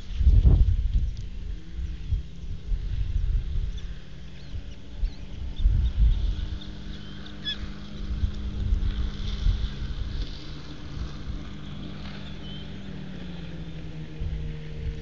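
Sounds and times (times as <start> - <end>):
motorboat engine humming: 0.0 - 15.0
wind buffeting microphone: 0.0 - 15.0.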